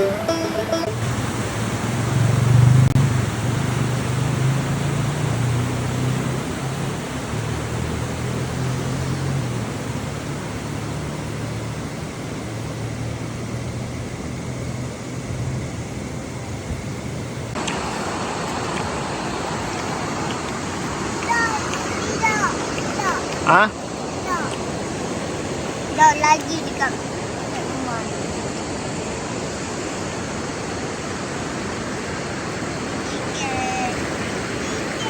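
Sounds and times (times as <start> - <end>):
road noise: 0.0 - 35.0
vehicle engine hum: 0.0 - 35.0.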